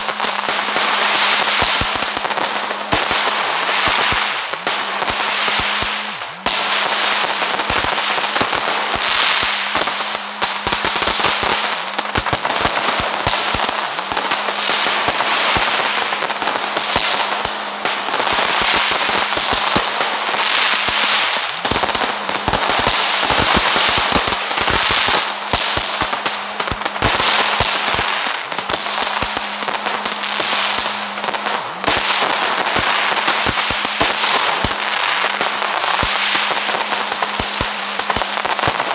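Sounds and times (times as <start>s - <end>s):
firecrackers cracking and popping: 0.0s - 38.9s.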